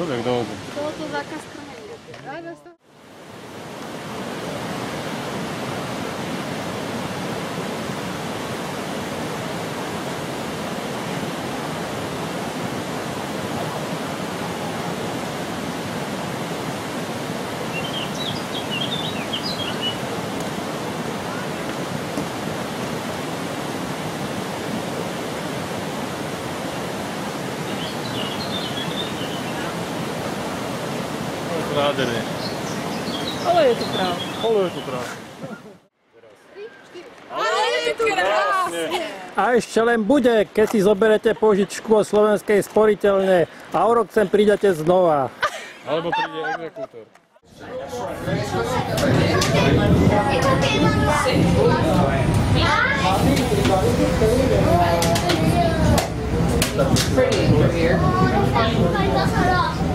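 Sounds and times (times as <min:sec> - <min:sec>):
rush of cascading water: 0:00.0 - 0:59.9.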